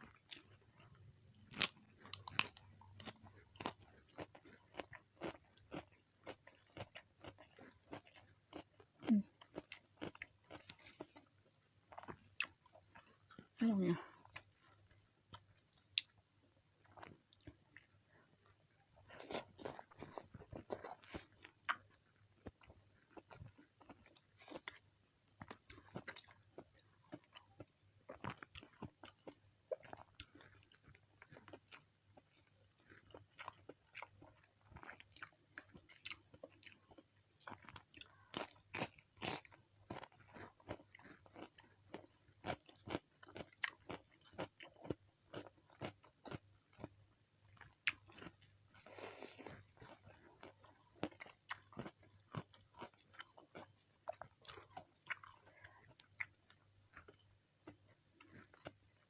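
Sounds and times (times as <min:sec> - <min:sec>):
person chewing crunchy food: 0:00.0 - 0:13.5, 0:16.8 - 0:59.0.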